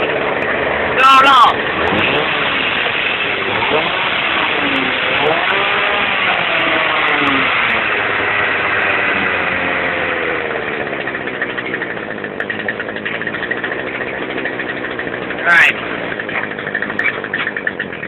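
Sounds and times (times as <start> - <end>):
small two-stroke engine running: 0.0 - 18.0.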